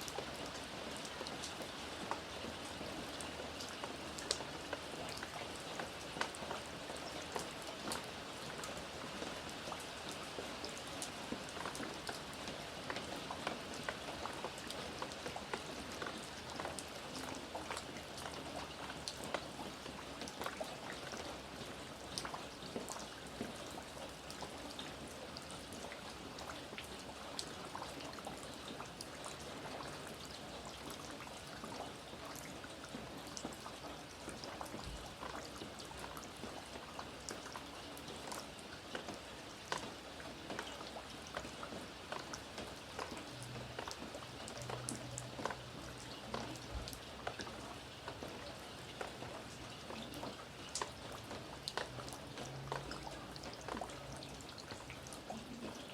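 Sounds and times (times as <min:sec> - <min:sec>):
raindrops ticking on a surface: 0:00.0 - 0:55.9
steady rain patter: 0:00.0 - 0:55.9.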